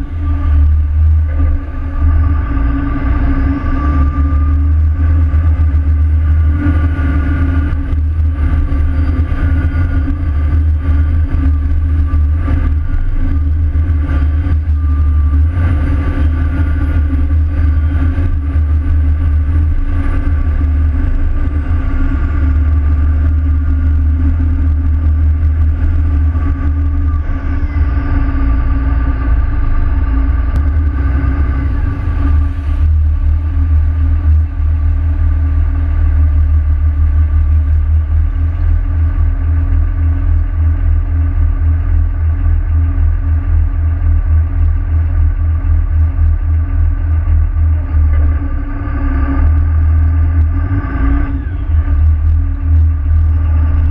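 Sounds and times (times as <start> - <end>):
boat engine drone: 0.0 - 53.9
steady hum: 0.0 - 53.9.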